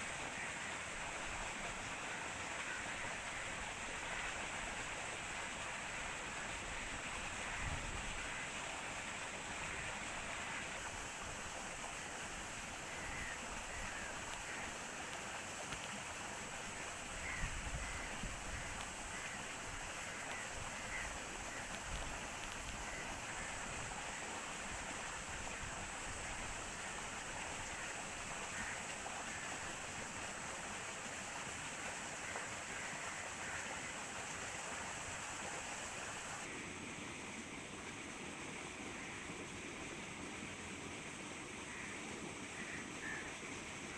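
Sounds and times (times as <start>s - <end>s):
steady outdoor hiss: 0.0s - 43.9s.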